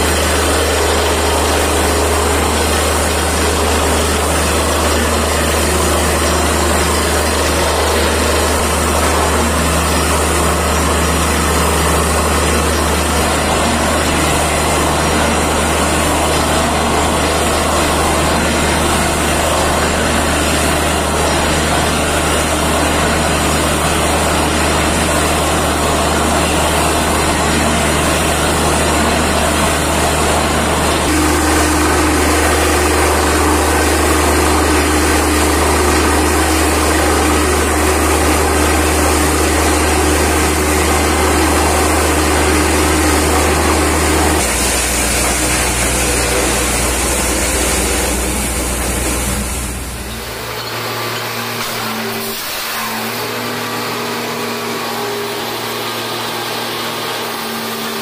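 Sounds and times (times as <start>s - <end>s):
drilling rig engine din: 0.0s - 58.0s
higher machine hum: 0.0s - 58.0s.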